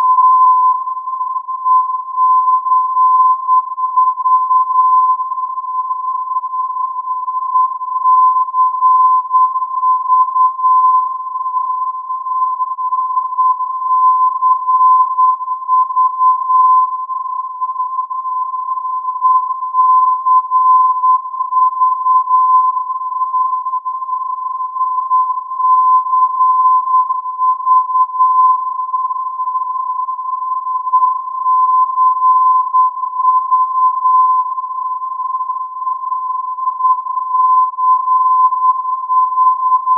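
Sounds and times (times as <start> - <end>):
steady pure radio tone: 0.0 - 39.9.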